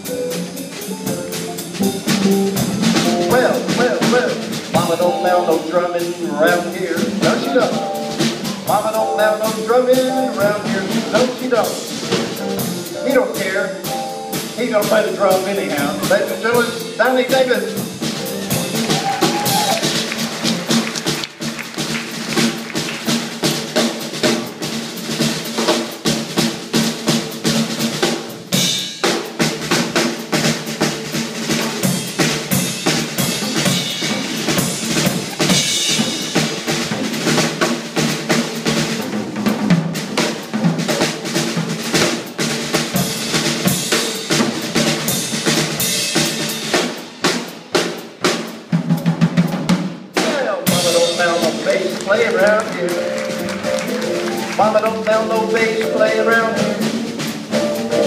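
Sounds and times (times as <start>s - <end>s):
drum kit solo: 0.0s - 58.0s.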